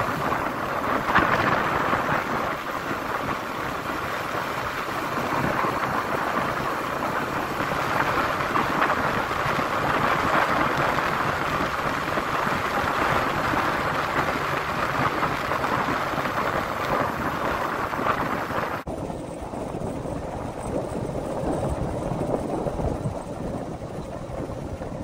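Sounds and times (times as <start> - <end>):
wind and road noise: 0.0 - 25.0
faint engine hum: 4.6 - 25.0.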